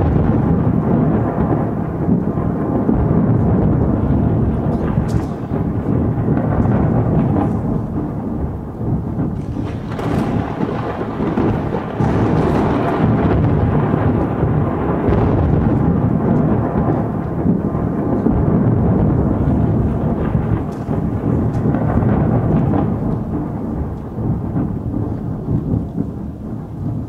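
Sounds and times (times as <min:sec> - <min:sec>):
deep rumble of thunder: 0:00.0 - 0:27.0
rain: 0:00.0 - 0:27.0.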